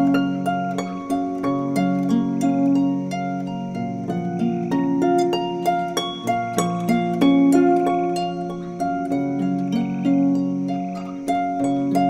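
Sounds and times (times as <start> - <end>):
harp playing gentle melody: 0.0 - 12.0.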